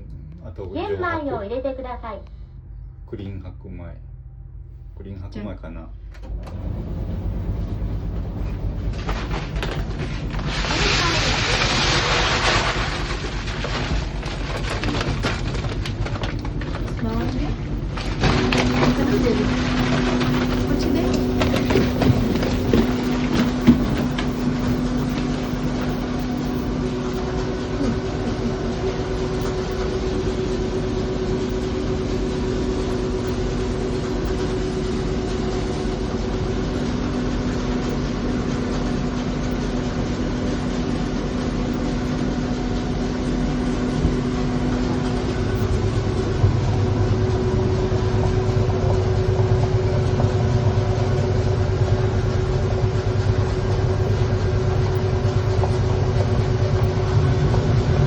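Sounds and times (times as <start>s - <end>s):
low rumble: 0.0s - 58.0s
rice milling machine humming: 6.1s - 58.0s.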